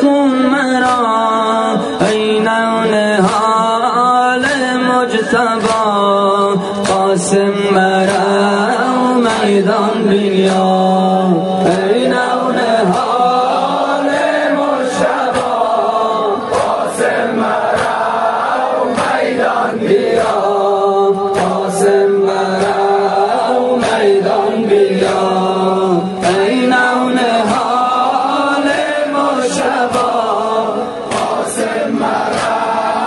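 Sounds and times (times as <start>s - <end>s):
male chorus singing a lament: 0.0s - 33.0s.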